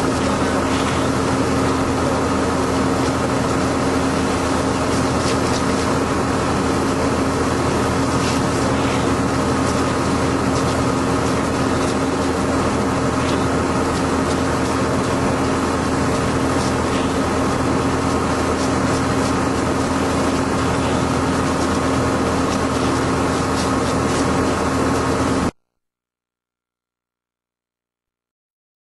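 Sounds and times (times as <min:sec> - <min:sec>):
engine running steadily: 0:00.0 - 0:25.6.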